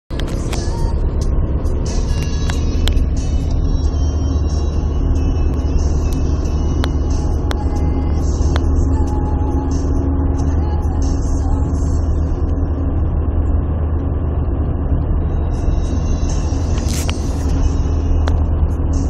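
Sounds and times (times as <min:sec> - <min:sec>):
car engine and road drone: 0:00.1 - 0:19.0.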